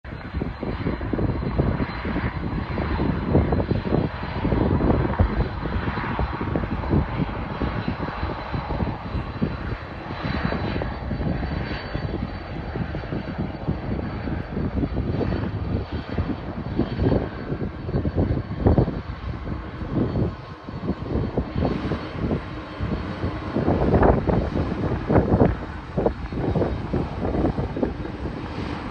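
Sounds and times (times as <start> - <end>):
jet engines rumbling: 0.0 - 28.9.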